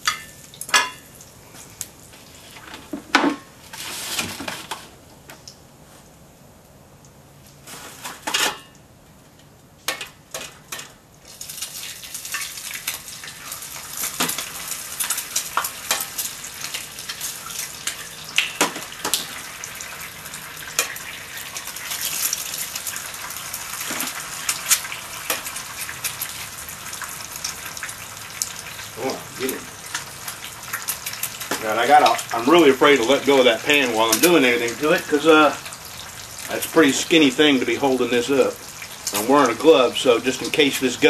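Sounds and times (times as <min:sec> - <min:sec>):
eggs sizzling in grease: 0:00.0 - 0:04.1, 0:09.7 - 0:41.0.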